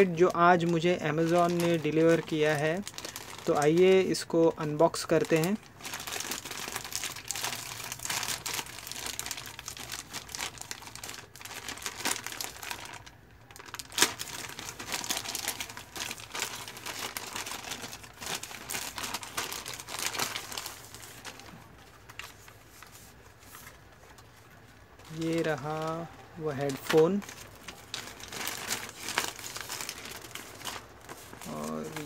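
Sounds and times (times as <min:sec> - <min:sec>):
plastic bag tearing: 0:00.0 - 0:04.3, 0:04.9 - 0:22.6, 0:25.1 - 0:32.0
plastic bag crinkling and rustling: 0:00.0 - 0:32.0.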